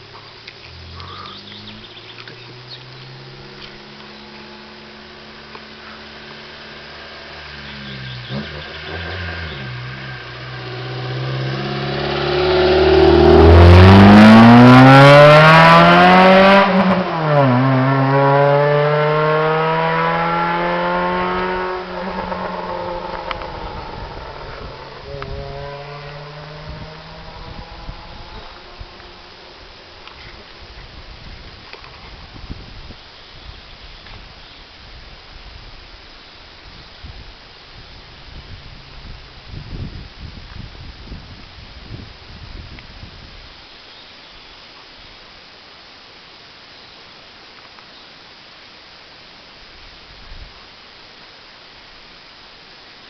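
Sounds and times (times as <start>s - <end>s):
car engine with open exhaust: 0.0s - 43.3s.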